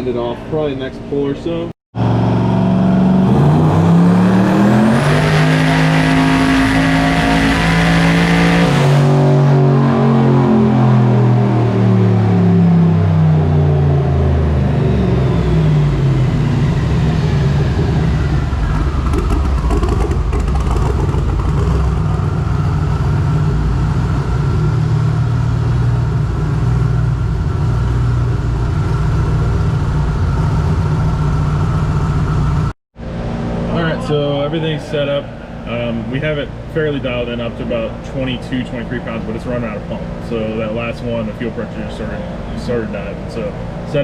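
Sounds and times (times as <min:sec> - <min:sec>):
engine revs falling: 0:02.0 - 0:44.0
high whine: 0:02.0 - 0:44.0.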